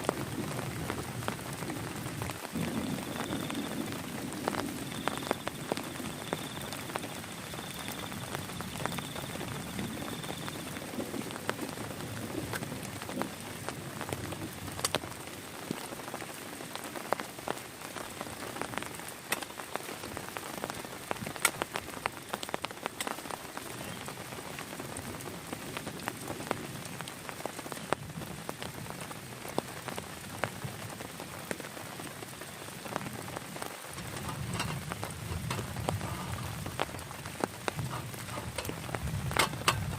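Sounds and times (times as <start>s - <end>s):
heavy rain falling: 0.0s - 39.9s
sharp raindrops striking close: 0.0s - 39.9s.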